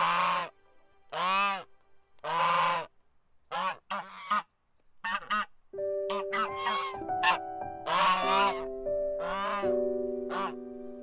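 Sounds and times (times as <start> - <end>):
goose honking: 0.0 - 0.5, 1.1 - 2.9, 3.5 - 5.5, 6.1 - 10.7.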